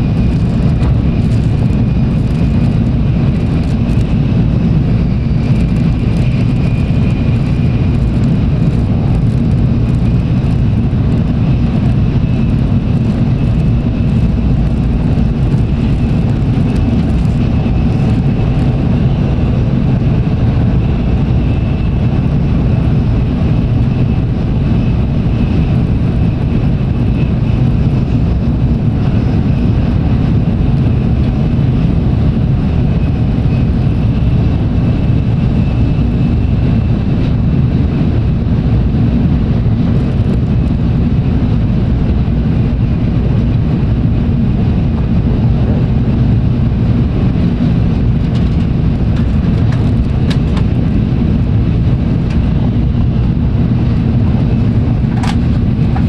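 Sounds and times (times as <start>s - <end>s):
rushing air: 0.0s - 56.0s
train wheels rumbling: 0.0s - 56.0s.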